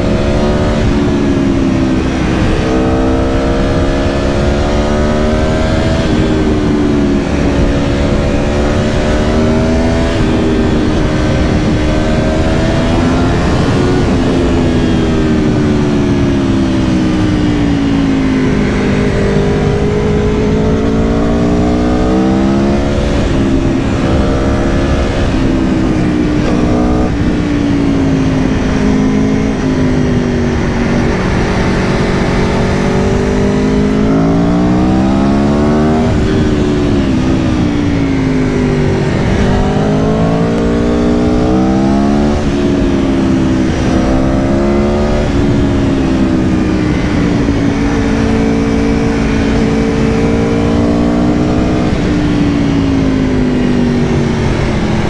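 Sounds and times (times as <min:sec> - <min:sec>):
motorcycle engine revving: 0:00.0 - 0:55.0
steady rush of noise: 0:00.0 - 0:55.0.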